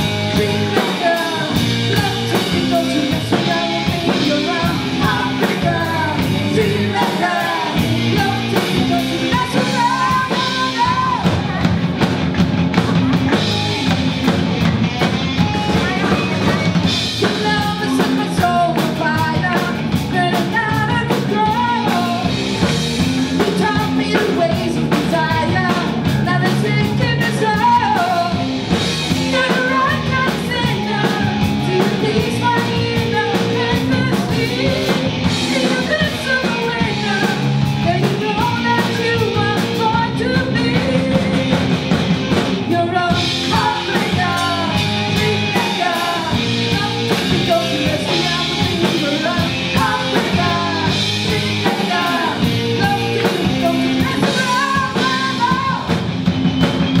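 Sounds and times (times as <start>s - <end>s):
woman singing lead: 0.0s - 12.1s, 12.7s - 56.9s
drum kit: 0.0s - 57.0s
electric guitar: 0.0s - 57.0s.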